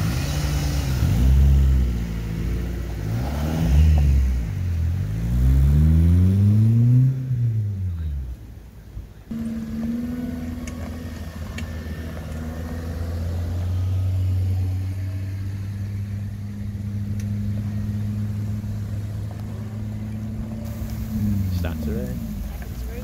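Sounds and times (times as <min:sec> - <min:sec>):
car engines running at low revs: 0:00.0 - 0:23.0.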